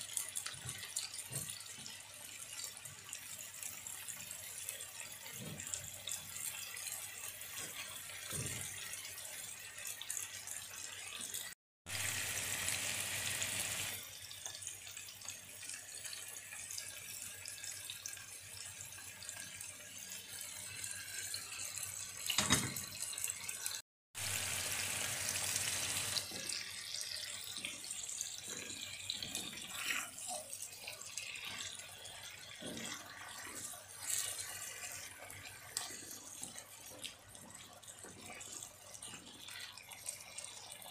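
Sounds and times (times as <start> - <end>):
oil sizzling in a skillet: 0.0 - 40.9.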